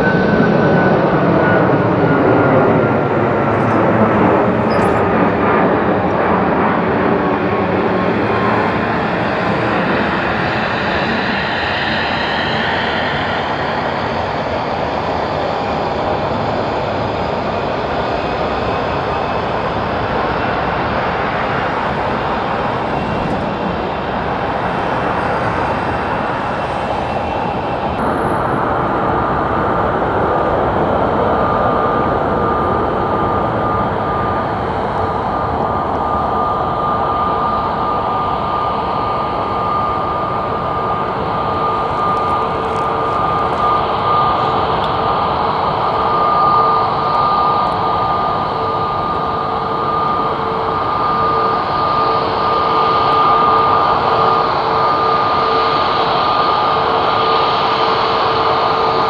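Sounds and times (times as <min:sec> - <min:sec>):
jet engines loud steady rush: 0:00.0 - 0:59.0
steady whine: 0:00.0 - 0:59.0.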